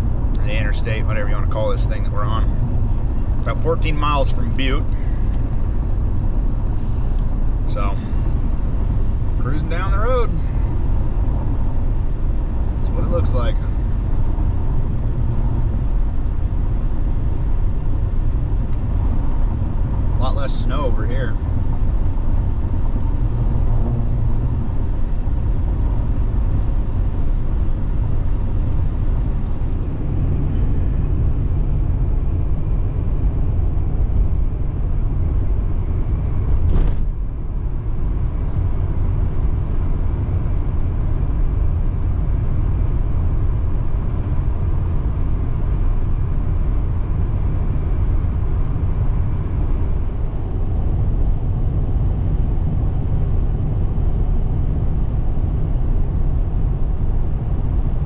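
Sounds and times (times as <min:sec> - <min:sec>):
truck tyres and engine rumbling: 0:00.0 - 0:58.0.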